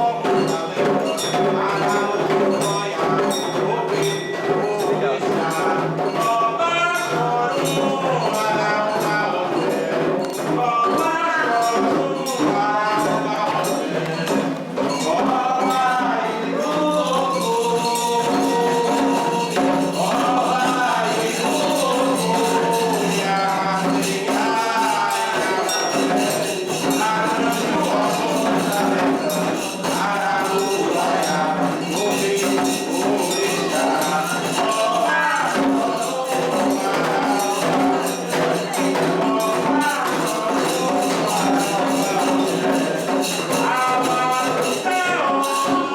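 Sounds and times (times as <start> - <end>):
group singing chants: 0.0 - 45.9
hand drum: 0.0 - 45.9
jingling percussion: 0.0 - 45.9.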